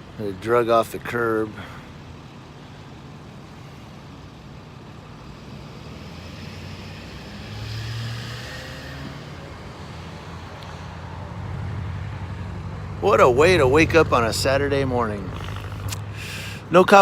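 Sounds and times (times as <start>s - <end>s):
tow truck engine running: 0.0s - 7.3s, 9.2s - 17.0s.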